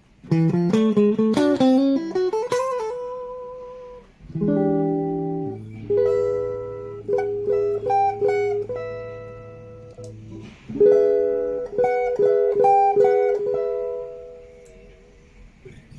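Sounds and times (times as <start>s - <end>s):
electric guitar notes: 0.1s - 15.9s.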